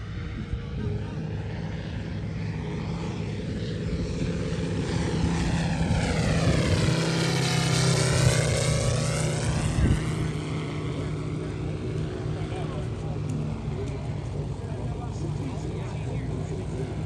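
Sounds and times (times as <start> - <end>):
model plane radial engine droning: 0.0 - 17.0.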